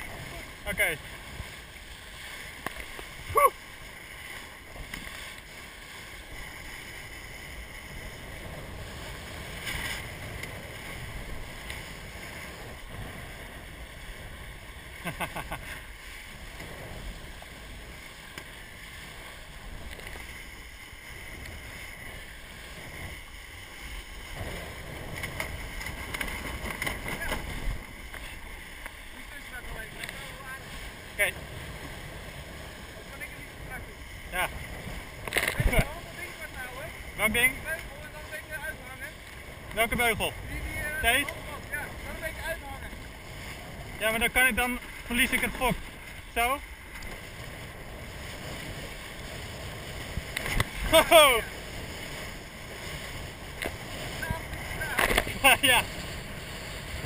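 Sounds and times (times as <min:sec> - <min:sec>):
water rushing along boat hull: 0:00.0 - 0:57.0
wind on microphone: 0:00.0 - 0:57.0.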